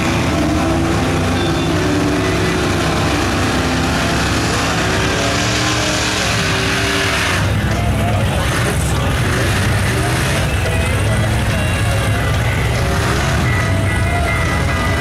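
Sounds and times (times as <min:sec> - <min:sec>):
mud truck engines revving: 0:00.0 - 0:15.0.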